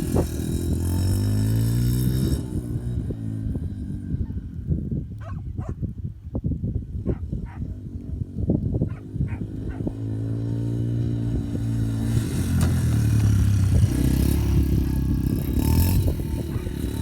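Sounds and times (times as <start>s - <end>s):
quad bike engine: 0.0s - 5.8s, 6.9s - 17.0s.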